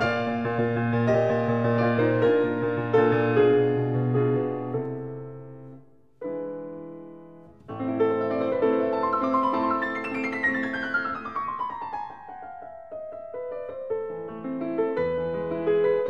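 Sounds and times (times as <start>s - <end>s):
solo classical piano: 0.0s - 16.0s.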